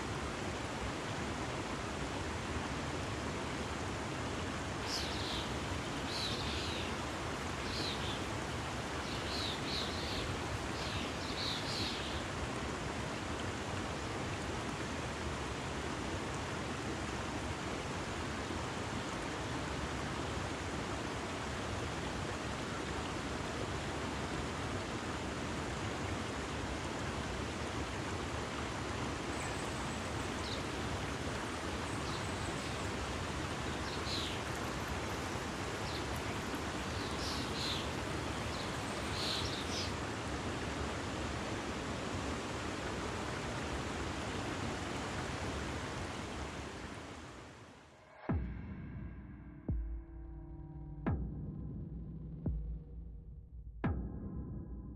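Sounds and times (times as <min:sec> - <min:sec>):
stream flowing over rocks: 0:00.0 - 0:47.4.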